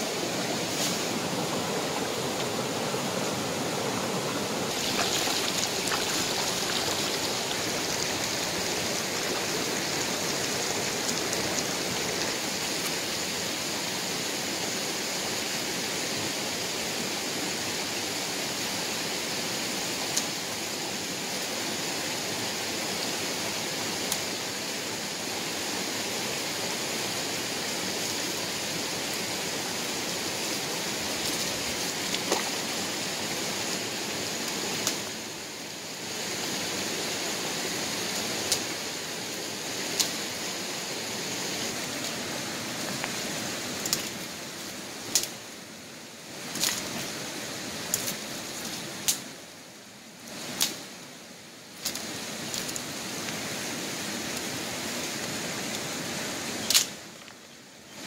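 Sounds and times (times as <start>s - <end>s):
stream rushing over rocks: 0.0s - 57.2s.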